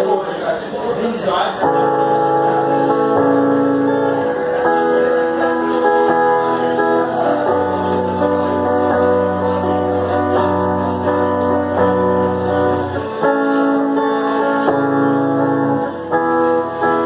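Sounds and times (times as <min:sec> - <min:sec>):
amplified guitar chords: 0:01.6 - 0:17.0.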